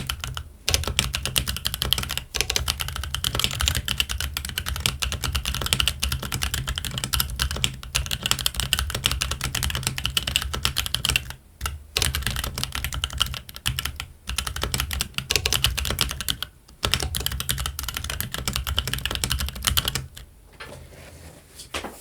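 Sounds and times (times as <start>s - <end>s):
fast mechanical keyboard typing: 0.0s - 20.3s.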